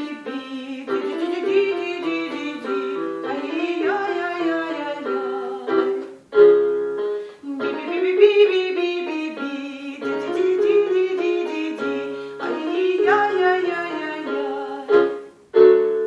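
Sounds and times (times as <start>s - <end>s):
woman singing warm-up phrases: 0.0s - 6.1s, 7.4s - 15.1s
piano accompaniment: 0.0s - 16.0s.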